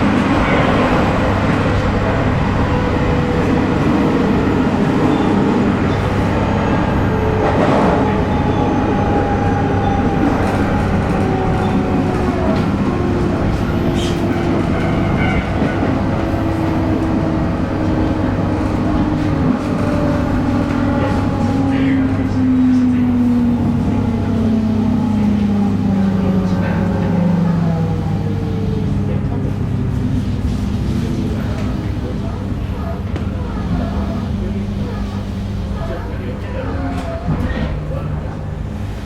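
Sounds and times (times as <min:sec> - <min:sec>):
wheel-on-rail noise: 0:00.0 - 0:39.0.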